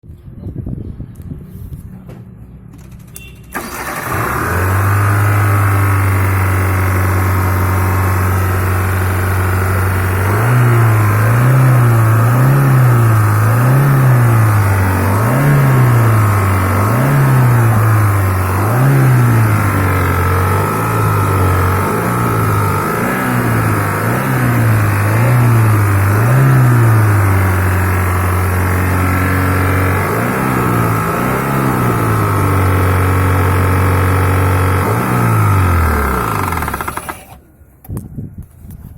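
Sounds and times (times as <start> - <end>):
car engine idling and revving: 2.3 - 37.6.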